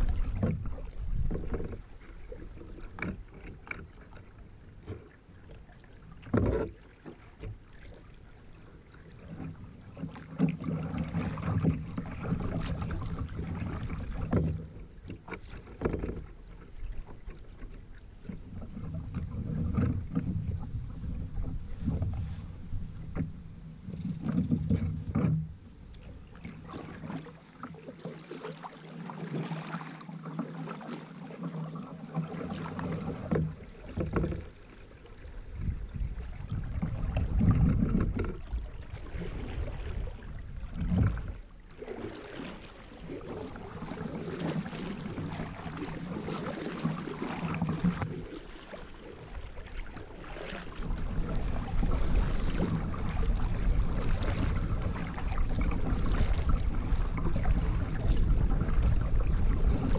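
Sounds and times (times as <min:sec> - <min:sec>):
paddle blades splashing: 0:00.0 - 0:59.9
water swishing along hull: 0:00.0 - 0:59.9.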